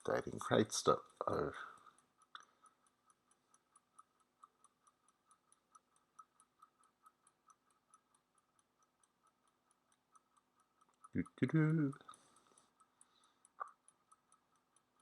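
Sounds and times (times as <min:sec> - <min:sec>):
timer ticking: 0:00.0 - 0:15.0.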